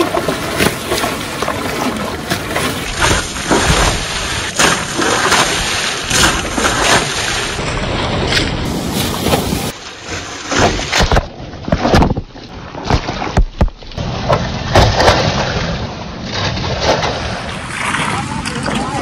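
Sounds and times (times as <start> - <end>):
loud water splashes: 0.0 - 19.0
water rushing: 0.0 - 19.0.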